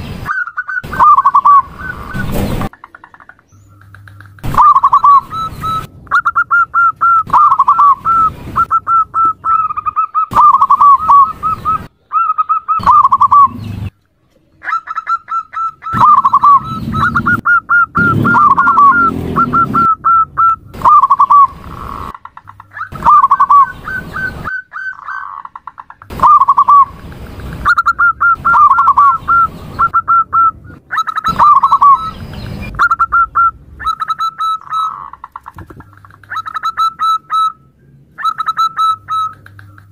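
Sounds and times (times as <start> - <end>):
dove cooing: 0.3 - 3.1, 3.8 - 13.9, 14.5 - 37.6, 38.2 - 39.9.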